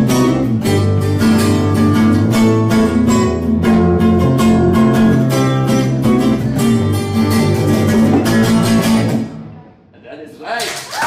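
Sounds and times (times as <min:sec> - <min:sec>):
acoustic guitars strummed: 0:00.0 - 0:09.7.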